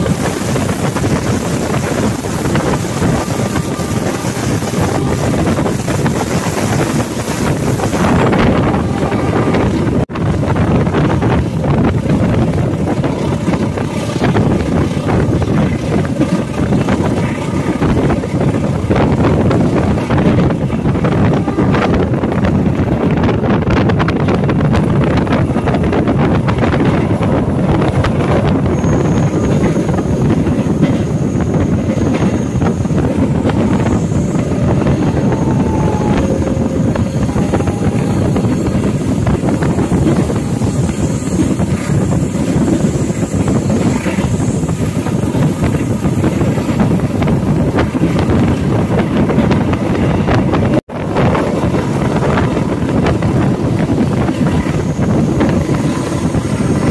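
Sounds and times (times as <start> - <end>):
passenger train running: 0.0 - 56.9
wind rushing on microphone: 0.0 - 56.9.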